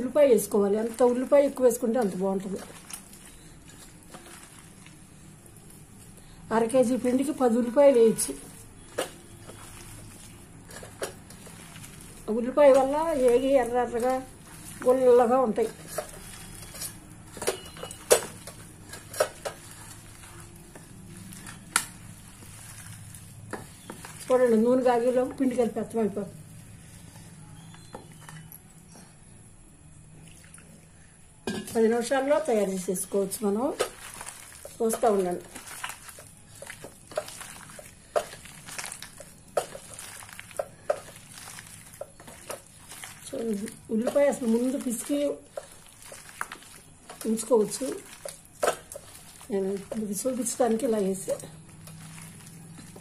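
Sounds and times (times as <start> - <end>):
hand mixing wet batter: 0.0 - 28.9, 31.7 - 53.0.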